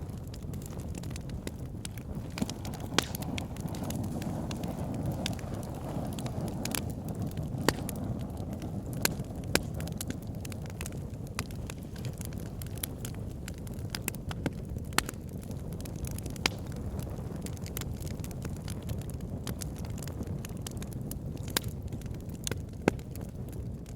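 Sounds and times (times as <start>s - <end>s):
burning wood popping: 0.0s - 23.9s
low rumble of fire: 0.0s - 23.9s.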